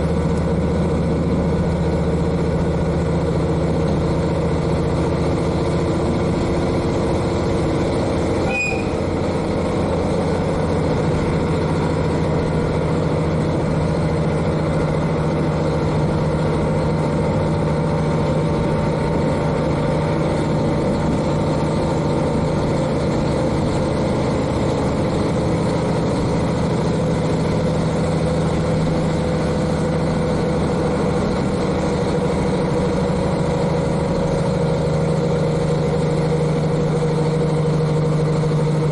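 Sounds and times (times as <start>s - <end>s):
diesel railcar engine running: 0.0s - 38.9s
train running noise: 0.0s - 38.9s.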